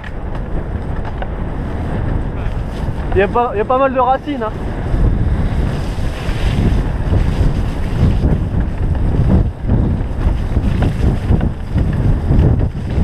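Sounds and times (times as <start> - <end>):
bike knocks and rattles: 0.0 - 3.4, 5.4 - 13.0
bike rumble on dirt trail: 0.0 - 13.0
wind buffeting microphone: 0.0 - 13.0.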